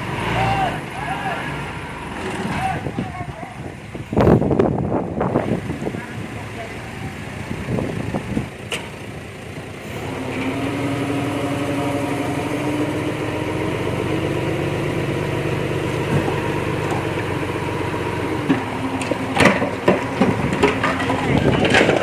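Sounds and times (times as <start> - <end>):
heavy machinery diesel engine: 0.0 - 22.0.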